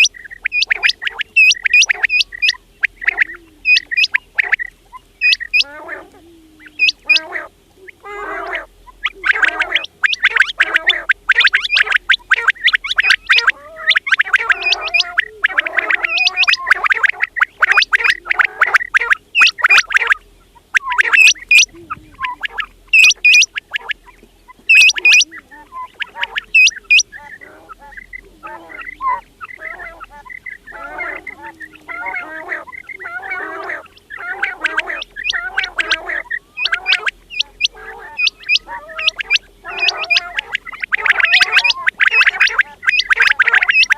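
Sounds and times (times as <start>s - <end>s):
quails chattering: 0.0s - 43.9s.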